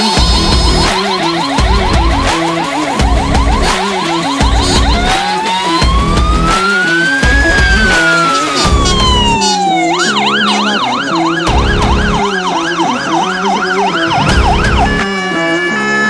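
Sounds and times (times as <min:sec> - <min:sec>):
fire engine siren: 0:00.0 - 0:16.0
music: 0:00.0 - 0:16.0.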